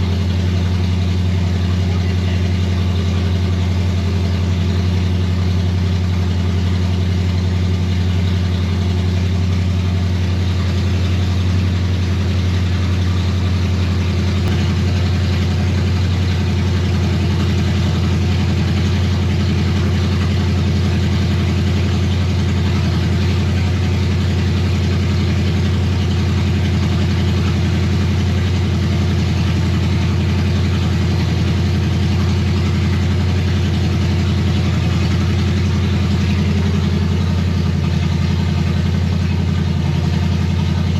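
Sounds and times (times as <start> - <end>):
vee eight engine running steadily: 0.0 - 40.9.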